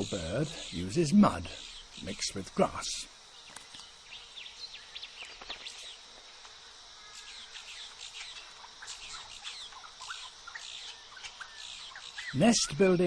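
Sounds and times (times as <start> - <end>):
birds chirping: 0.0 - 13.0
insect hum: 0.0 - 13.0.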